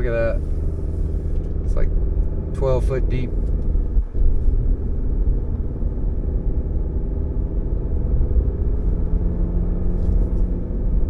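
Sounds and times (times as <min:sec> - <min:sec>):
faint engine hum: 0:00.0 - 0:11.0
truck engine and road rumble: 0:00.0 - 0:11.0.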